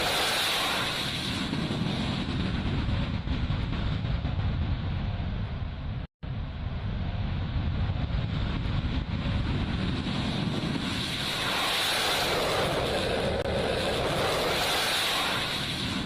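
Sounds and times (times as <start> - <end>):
jet engine rush: 0.0 - 16.0.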